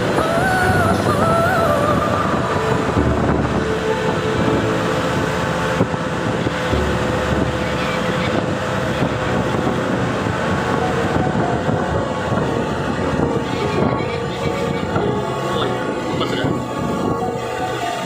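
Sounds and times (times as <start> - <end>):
motorboat engine running: 0.0 - 18.0
wind noise on microphone: 0.0 - 18.0.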